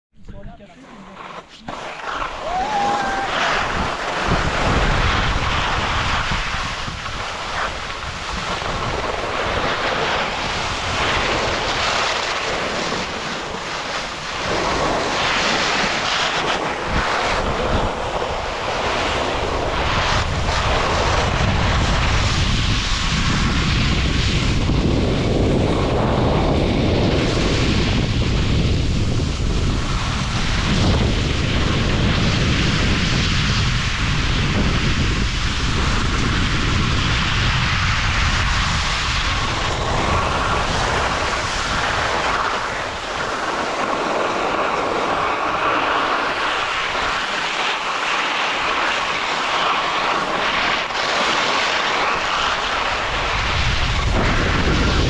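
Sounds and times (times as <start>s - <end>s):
wind buffeting microphone: 0.1s - 55.0s
skis sliding over snow: 0.6s - 55.0s.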